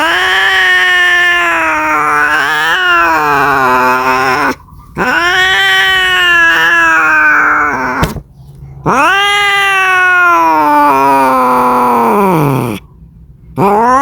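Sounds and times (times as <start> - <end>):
cat yowling: 0.0 - 8.2, 8.8 - 12.8, 13.6 - 14.0.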